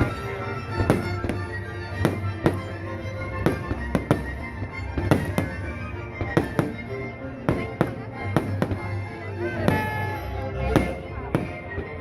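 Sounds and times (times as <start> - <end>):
fireworks bursting: 0.0 - 9.0, 9.6 - 11.7
music playing: 0.0 - 12.0.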